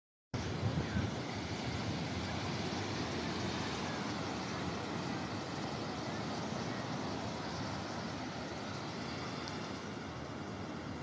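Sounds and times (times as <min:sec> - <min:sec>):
ocean surf washing in: 0:00.4 - 0:11.0.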